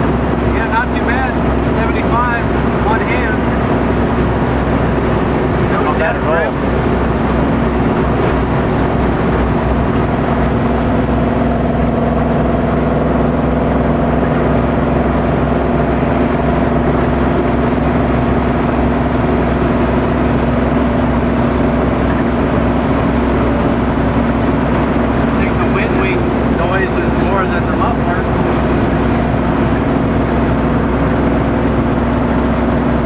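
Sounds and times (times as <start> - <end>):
car exhaust steady note: 0.0 - 33.0
road and wind noise: 0.0 - 33.0.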